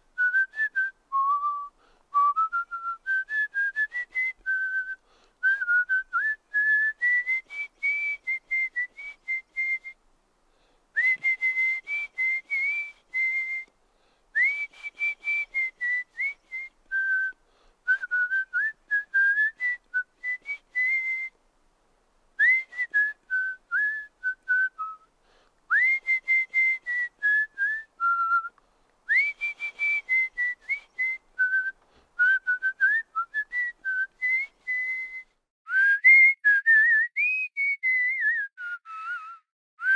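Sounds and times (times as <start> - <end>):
person whistling: 0.2 - 10.0, 11.0 - 13.7, 14.4 - 21.4, 22.4 - 25.1, 25.7 - 39.9.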